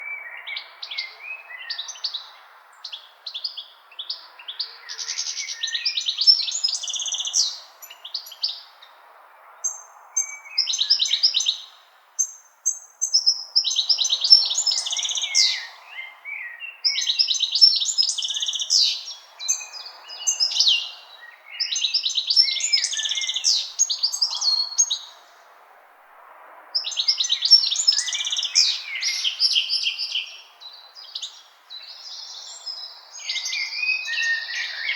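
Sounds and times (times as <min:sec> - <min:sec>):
songbird singing: 0:00.0 - 0:25.6, 0:26.8 - 0:34.9.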